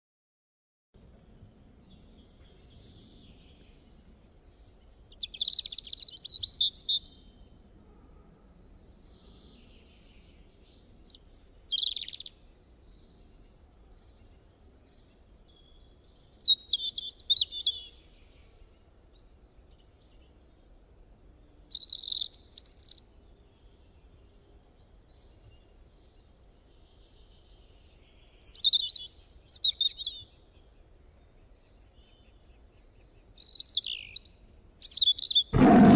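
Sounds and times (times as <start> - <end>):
faint low background noise: 1.0 - 35.9
bird chirping: 1.8 - 7.5, 8.6 - 20.4, 21.3 - 35.9.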